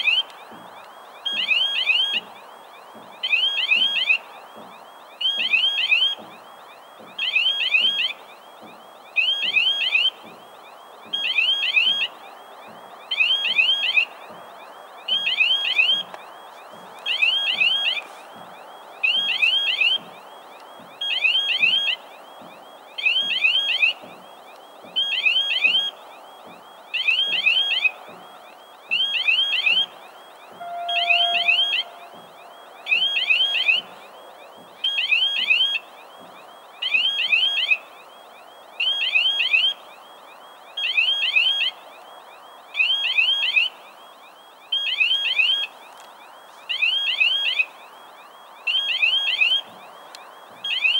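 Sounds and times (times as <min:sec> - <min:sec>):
faint steady tone: 0:00.0 - 0:50.9.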